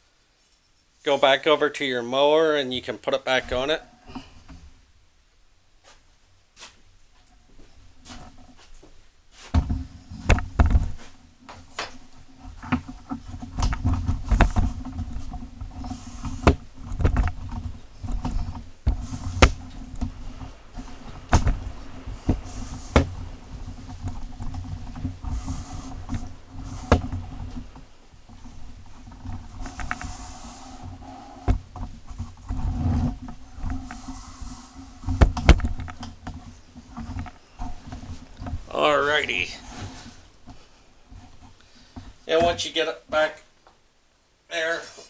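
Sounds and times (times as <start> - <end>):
steady low hum: 3.0 - 42.5.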